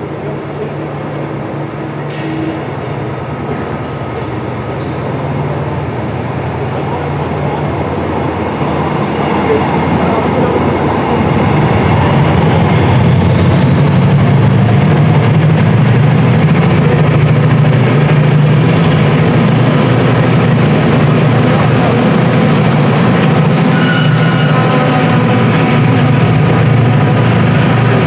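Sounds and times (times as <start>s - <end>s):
diesel locomotive engine hum: 0.0s - 28.0s.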